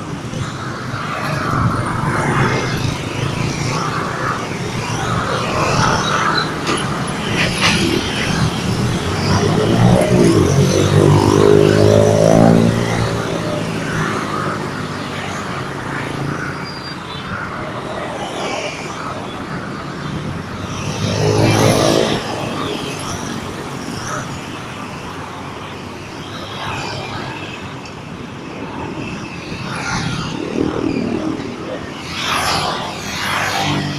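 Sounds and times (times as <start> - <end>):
steady traffic noise: 0.0 - 33.9.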